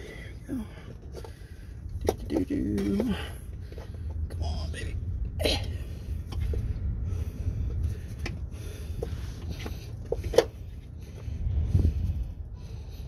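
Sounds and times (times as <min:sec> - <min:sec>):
rustling and scraping under car: 0:00.0 - 0:13.0
steady low rumble: 0:00.0 - 0:13.0.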